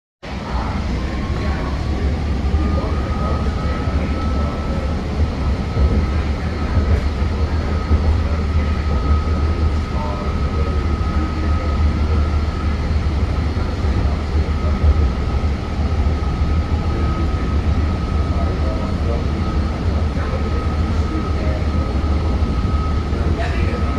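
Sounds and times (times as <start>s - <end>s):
train low rumble: 0.2s - 23.9s
thin high whine: 0.3s - 23.9s.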